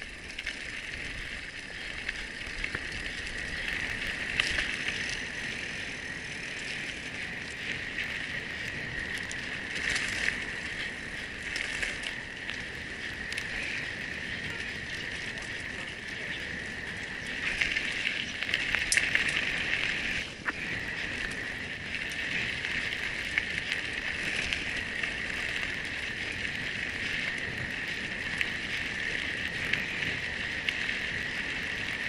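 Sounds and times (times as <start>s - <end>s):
bike rattling: 0.0s - 32.0s
bike tyres on dirt: 0.0s - 32.0s.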